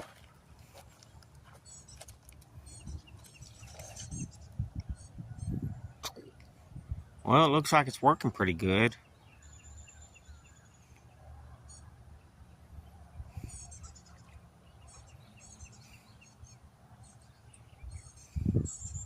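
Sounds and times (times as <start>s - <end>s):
small birds chirping: 0.6s - 19.0s.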